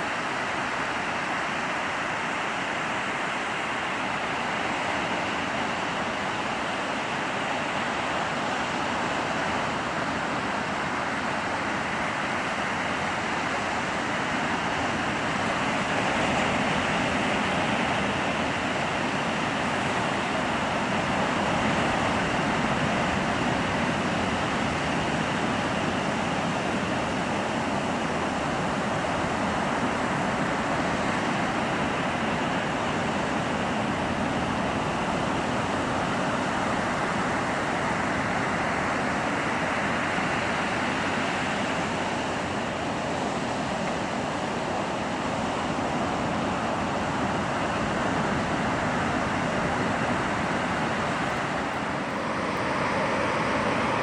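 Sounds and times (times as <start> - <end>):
ocean surf breaking: 0.1 - 54.0.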